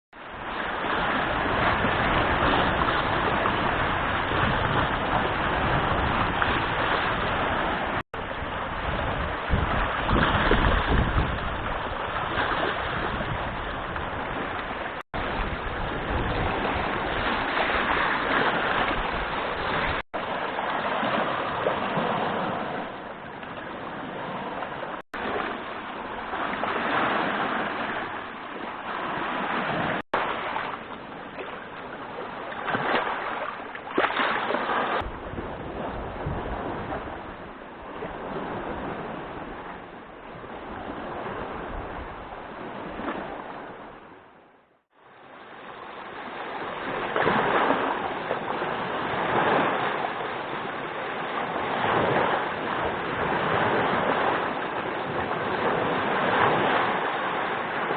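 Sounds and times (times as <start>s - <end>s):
waves washing: 0.1s - 57.9s
wind blowing across microphone: 0.2s - 44.4s, 45.6s - 57.9s.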